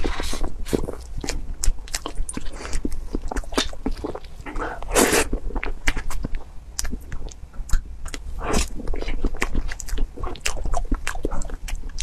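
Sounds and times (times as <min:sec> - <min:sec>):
wet mouth clicks and smacks: 0:00.7 - 0:04.3, 0:05.2 - 0:12.0.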